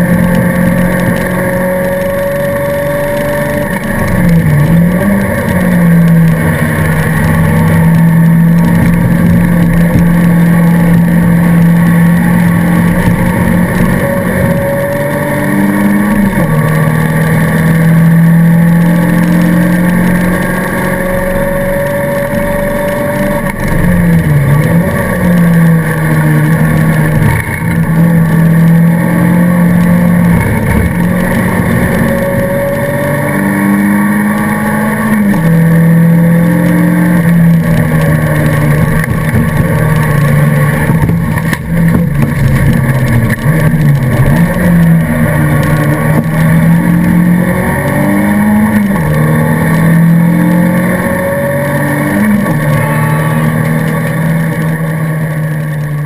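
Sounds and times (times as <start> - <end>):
race car engine at high revs: 0.0 - 56.0.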